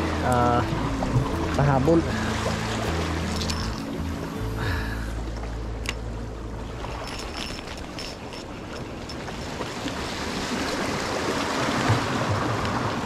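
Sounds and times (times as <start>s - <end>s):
sea water washing: 0.0s - 13.0s.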